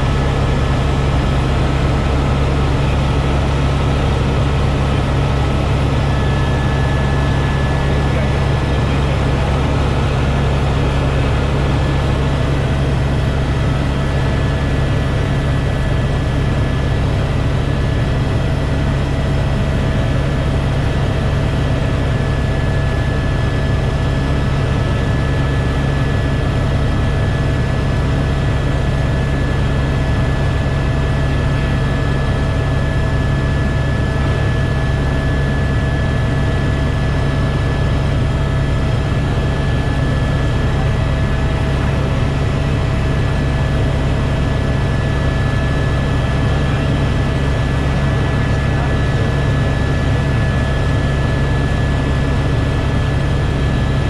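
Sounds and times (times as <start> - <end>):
helicopter rotor and engine drone: 0.0 - 54.0.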